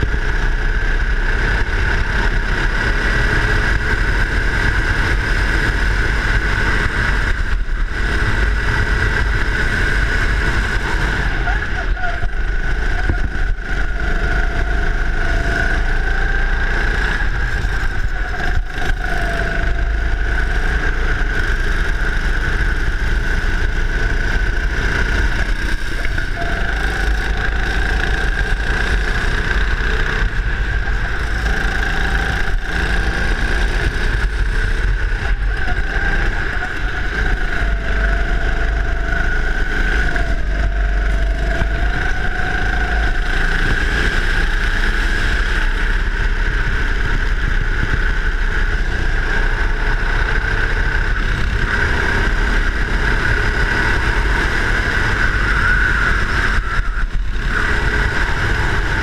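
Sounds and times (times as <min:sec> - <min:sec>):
go-kart engine running: 0:00.0 - 0:59.0
low rumble: 0:03.8 - 0:59.0.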